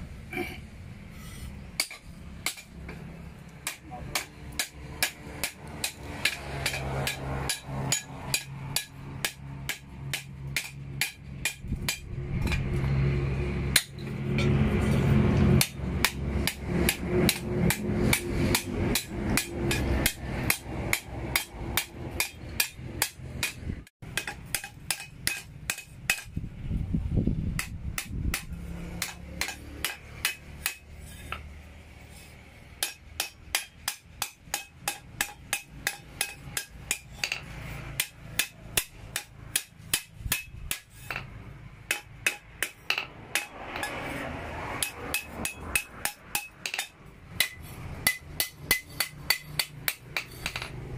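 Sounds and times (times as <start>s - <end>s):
hammer striking steel blade: 1.2s - 3.0s, 3.6s - 12.8s, 13.7s - 26.4s, 27.6s - 31.5s, 32.8s - 41.3s, 41.9s - 50.8s.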